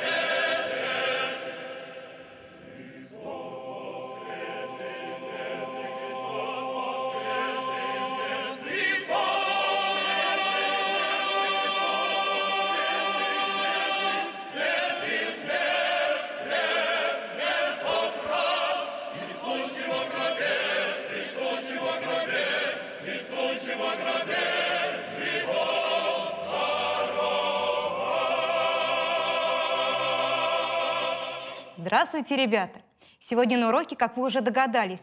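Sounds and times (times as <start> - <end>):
choir singing: 0.0 - 31.8.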